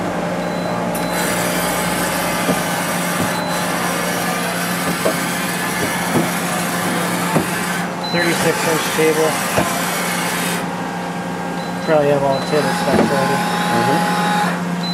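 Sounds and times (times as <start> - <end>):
machinery hum and hiss: 0.0 - 14.8.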